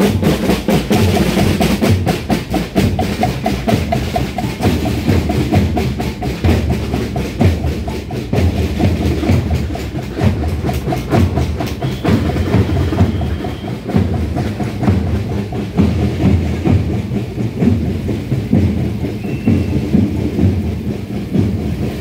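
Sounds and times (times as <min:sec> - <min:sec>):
drums beating steady rhythm: 0:00.0 - 0:22.0.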